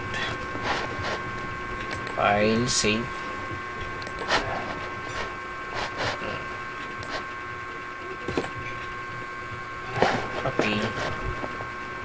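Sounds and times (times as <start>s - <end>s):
faint electrical hum: 0.0s - 12.0s
thin high whine: 0.0s - 12.0s.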